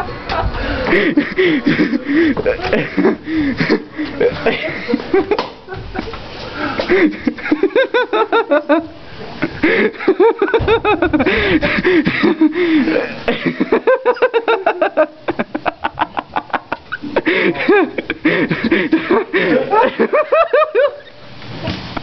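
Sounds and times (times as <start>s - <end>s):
laughter: 0.0s - 22.0s.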